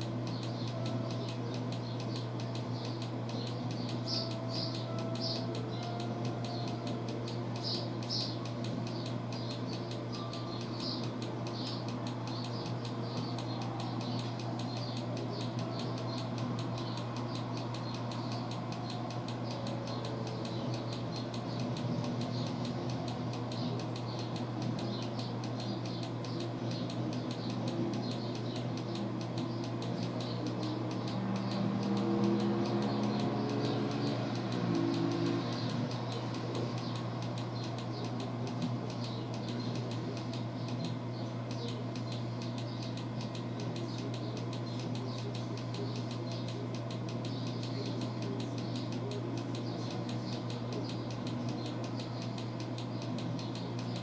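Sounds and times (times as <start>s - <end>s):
high-pitched ticking: 0.0s - 54.0s.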